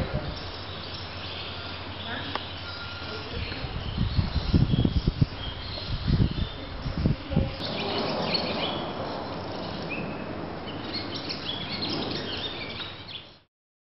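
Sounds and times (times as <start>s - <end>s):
small birds chirping: 0.0s - 13.5s
steady background noise: 0.0s - 13.5s.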